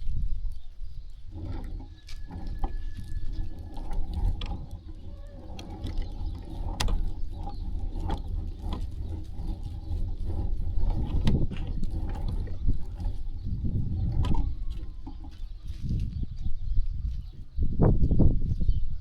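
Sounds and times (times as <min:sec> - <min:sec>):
sheep hooves clicking and knocking: 0:00.0 - 0:17.5
steady low rumble: 0:00.0 - 0:19.0.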